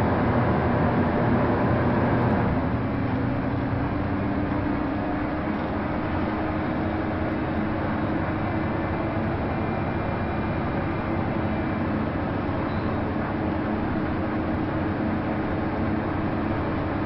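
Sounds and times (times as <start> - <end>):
bus diesel engine drone: 0.0 - 17.0
road noise: 0.0 - 17.0.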